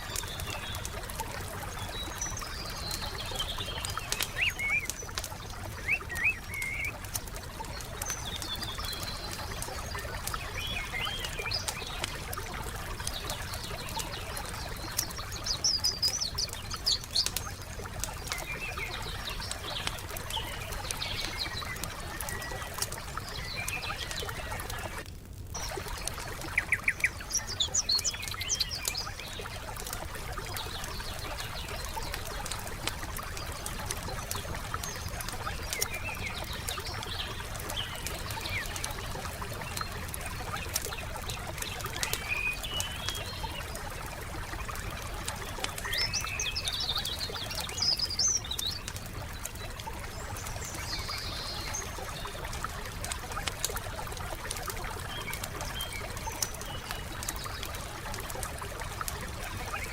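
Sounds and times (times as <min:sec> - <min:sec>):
birds chirping: 0:00.0 - 0:25.0, 0:25.6 - 0:59.9
campfire crackling: 0:00.0 - 0:59.9
water trickling: 0:00.0 - 0:59.9.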